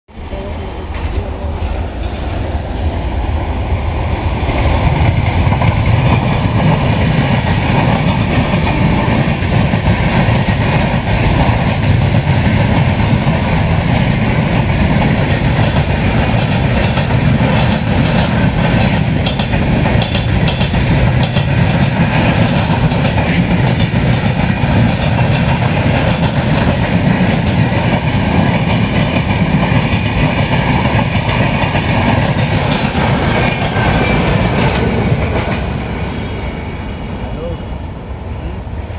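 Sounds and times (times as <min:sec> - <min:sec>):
train wheels rumbling on rails: 0:00.1 - 0:38.9
clickety-clack over rail joints: 0:04.4 - 0:36.0.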